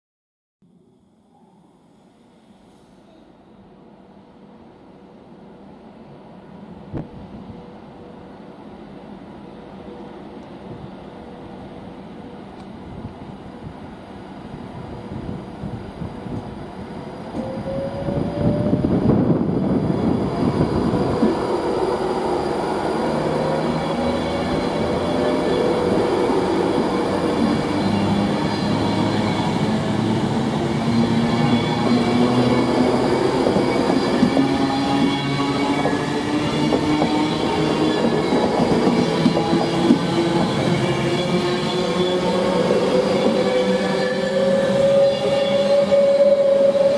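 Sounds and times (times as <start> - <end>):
train passing at speed: 0.7 - 46.9.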